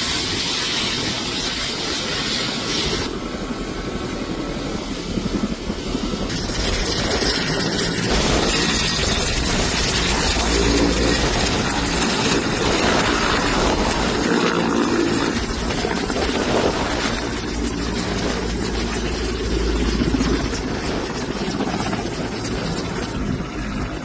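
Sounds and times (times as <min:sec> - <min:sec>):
dense rushing noise: 0:00.0 - 0:24.0
engine drone: 0:00.1 - 0:24.0.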